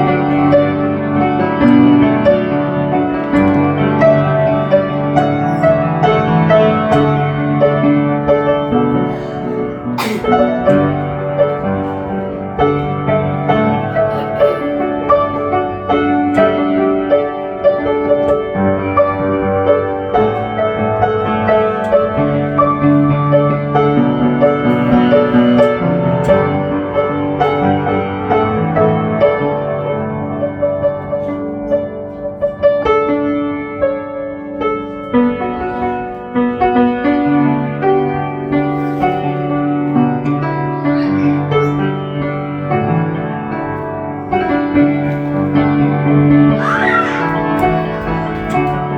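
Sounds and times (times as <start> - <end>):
piano music: 0.0 - 48.9.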